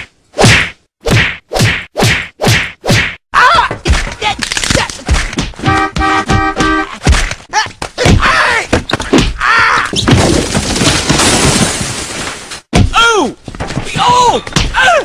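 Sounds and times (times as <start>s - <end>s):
sharp thuds and knocks: 0.0s - 15.0s.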